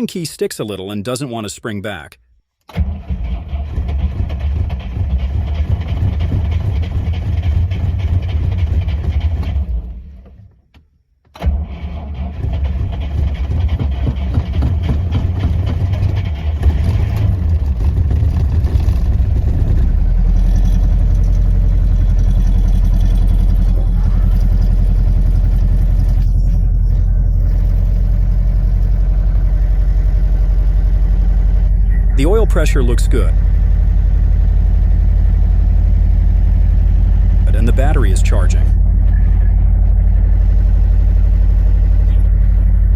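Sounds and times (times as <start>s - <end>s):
car engine starting and idling: 2.6s - 42.9s.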